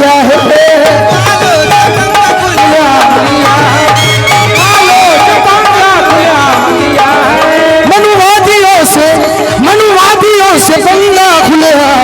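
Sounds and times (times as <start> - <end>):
person singing: 0.0 - 11.6
hand drums: 0.0 - 12.0
melodic lead line: 0.0 - 12.0.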